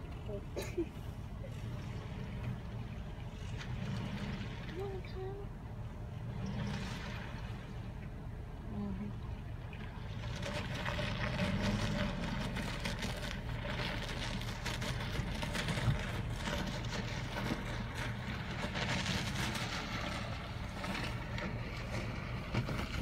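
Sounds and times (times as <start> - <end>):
suv engine hum: 0.0 - 23.0
water splashing: 0.0 - 23.0.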